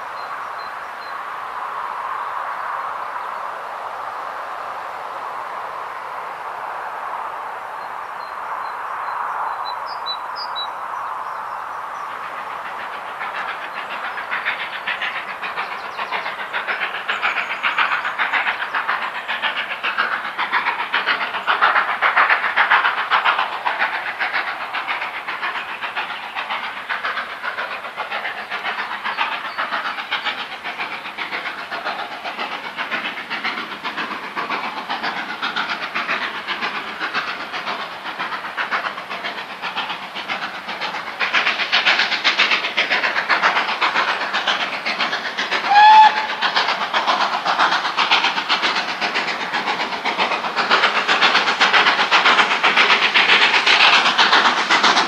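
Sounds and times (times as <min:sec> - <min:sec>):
steam locomotive chuffing: 0:00.0 - 0:04.1, 0:07.8 - 0:55.0
steam exhaust hiss: 0:00.0 - 0:55.0.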